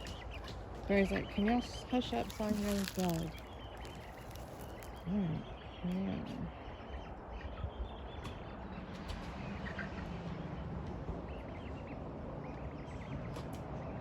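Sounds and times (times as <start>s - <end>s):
chickens clucking and trilling: 0.0s - 14.0s.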